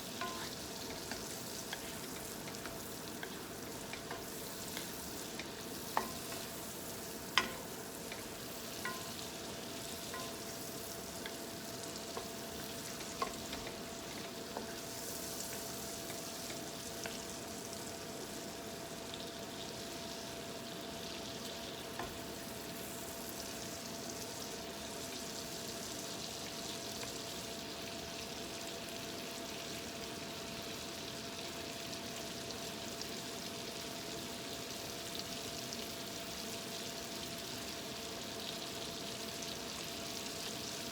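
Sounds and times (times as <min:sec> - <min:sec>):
food sizzling in a frying pan: 0:00.0 - 0:40.9.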